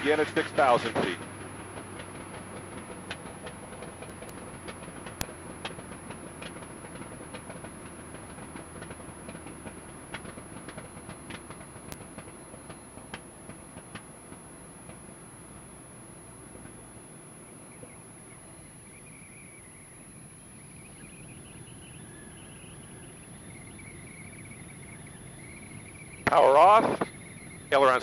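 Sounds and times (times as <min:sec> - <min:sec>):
aircraft engine rumble: 0:00.0 - 0:28.0
faint high whine: 0:00.0 - 0:28.0.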